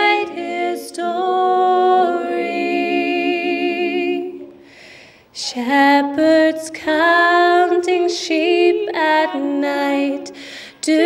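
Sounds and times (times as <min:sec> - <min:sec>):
women singing in harmony: 0:00.0 - 0:04.6, 0:05.4 - 0:11.0.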